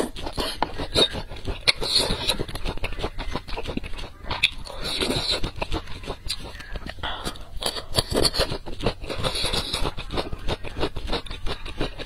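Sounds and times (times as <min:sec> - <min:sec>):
chewing crunchy food: 0:00.0 - 0:12.0
wet mouth sounds: 0:00.0 - 0:12.0.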